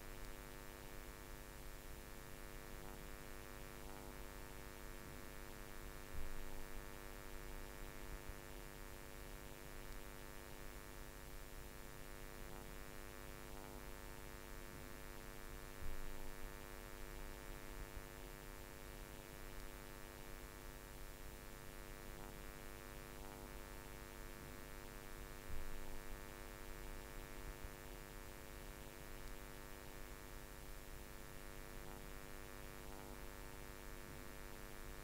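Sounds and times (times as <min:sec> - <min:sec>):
faint electrical hum: 0:00.0 - 0:35.0.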